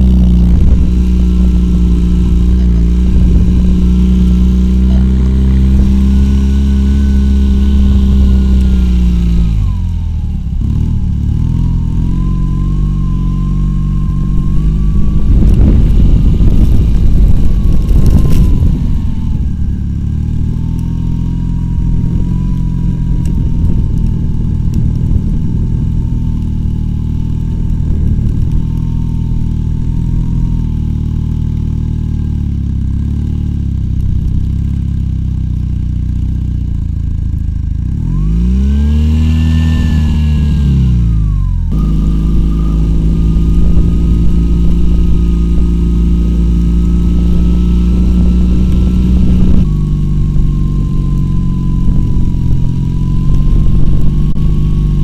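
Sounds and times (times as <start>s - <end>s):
engine running hard under load: 0.0s - 55.0s
thin whine: 0.0s - 55.0s.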